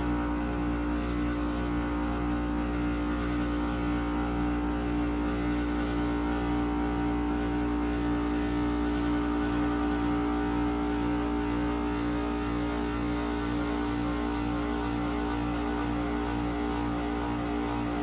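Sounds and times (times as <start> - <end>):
heat pump compressor hum: 0.0 - 18.0.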